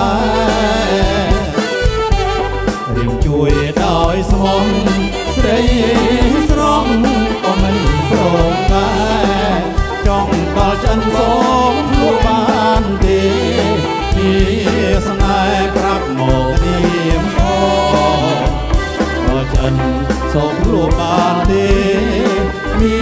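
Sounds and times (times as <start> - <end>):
live band playing dance music: 0.0 - 23.0
steady drum beat: 0.0 - 23.0.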